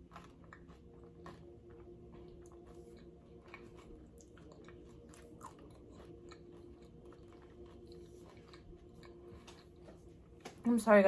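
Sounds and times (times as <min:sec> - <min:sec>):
chewing chips: 0:00.0 - 0:10.6
faint steady hum: 0:00.0 - 0:11.0.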